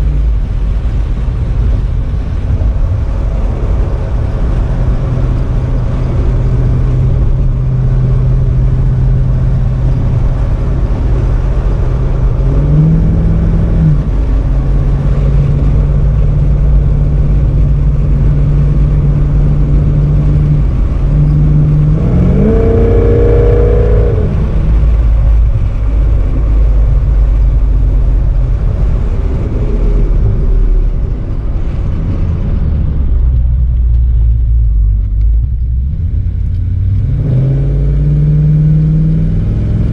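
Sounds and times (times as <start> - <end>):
car engine running and revving: 0.0 - 39.9.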